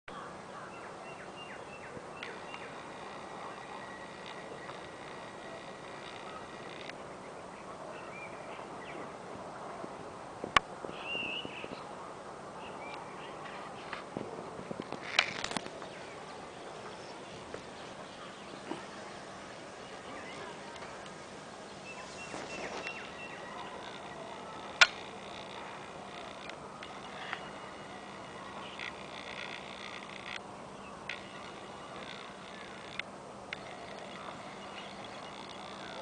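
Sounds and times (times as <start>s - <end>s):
birds chirping: 0.1s - 9.4s, 10.9s - 36.0s
steady background hiss: 0.1s - 36.0s.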